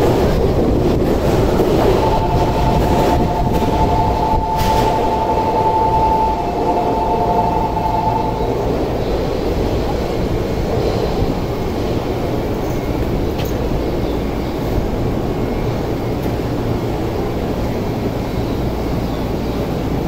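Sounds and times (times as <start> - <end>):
electric train humming: 0.0 - 20.0
station background noise: 0.0 - 20.0.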